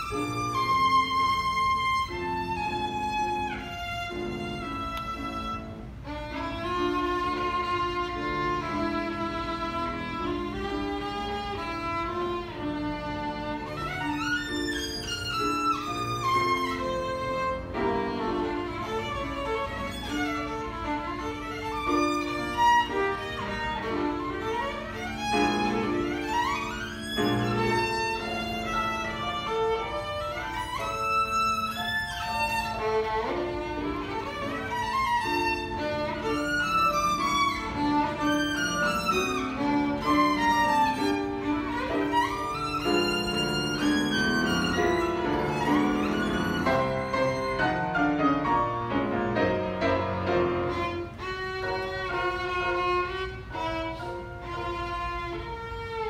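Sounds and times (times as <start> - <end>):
grand piano accompaniment: 0.0 - 56.0
solo violin fast passage: 0.0 - 56.0.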